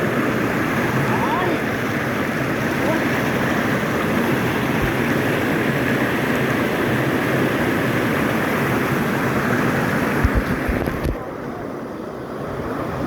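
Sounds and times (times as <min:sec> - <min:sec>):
stream water tumbling over rocks: 0:00.0 - 0:13.0.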